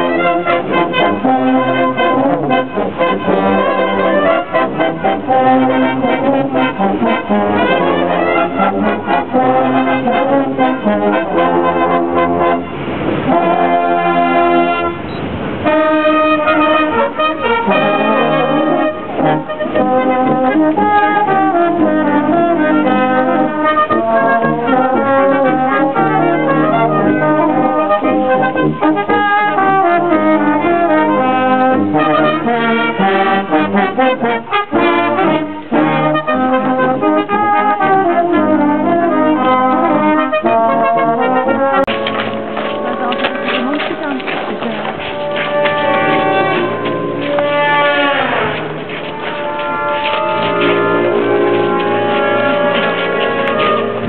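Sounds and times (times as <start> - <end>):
brass ensemble playing: 0.0 - 54.0.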